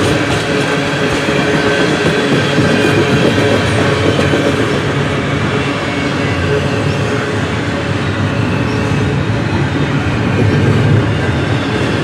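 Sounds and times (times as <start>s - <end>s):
train wheels clacking on rails: 0.0s - 12.0s.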